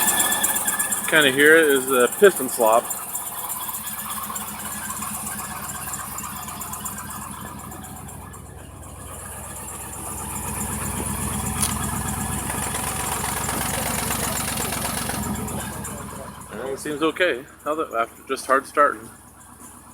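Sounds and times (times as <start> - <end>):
car engine idling: 0.0 - 19.9
rhythmic engine knock: 0.0 - 19.9.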